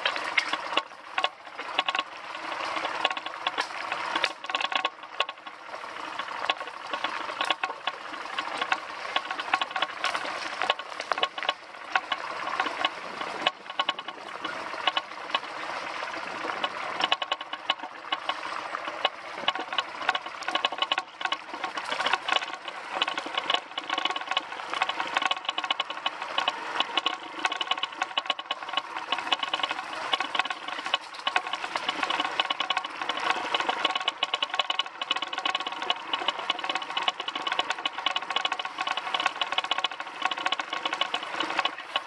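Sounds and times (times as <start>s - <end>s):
rattling and knocks: 6.2s - 15.5s, 16.5s - 42.0s.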